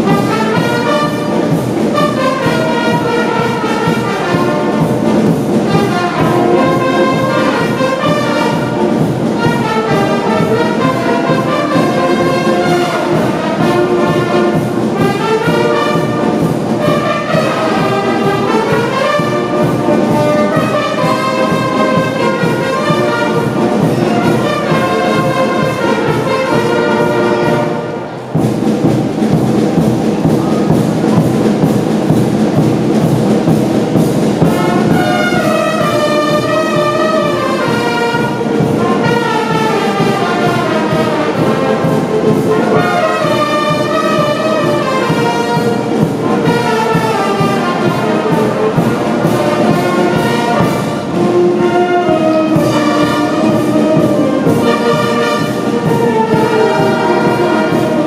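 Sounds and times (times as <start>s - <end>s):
concert band playing: 0.0s - 58.0s.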